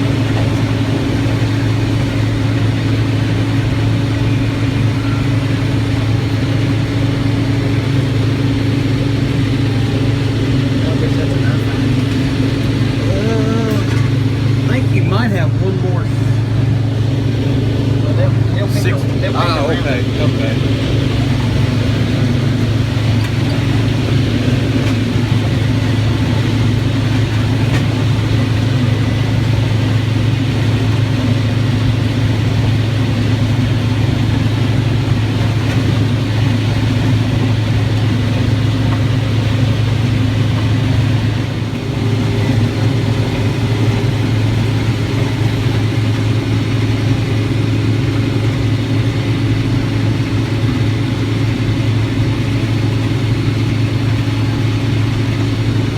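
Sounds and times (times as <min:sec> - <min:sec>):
harvester engine droning: 0:00.0 - 0:55.9.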